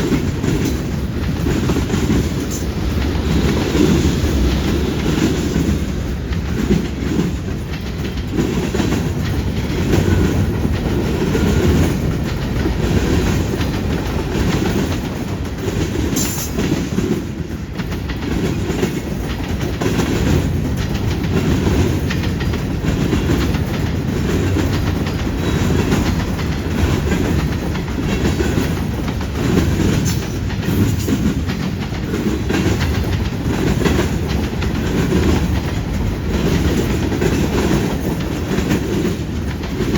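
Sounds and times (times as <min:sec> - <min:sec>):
train low rumble: 0:00.0 - 0:39.9
train wheels clicking over rail joints: 0:00.0 - 0:39.9.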